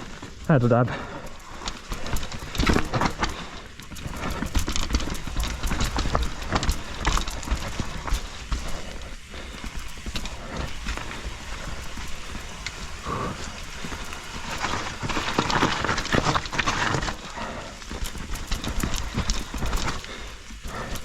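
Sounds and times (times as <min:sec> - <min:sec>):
mountain bike rattling over trail: 0:00.0 - 0:21.0.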